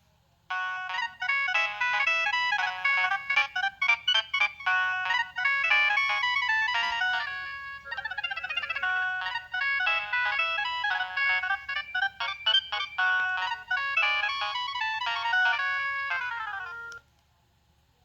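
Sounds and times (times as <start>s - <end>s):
mobile phone ringtone melody: 0.5s - 17.0s.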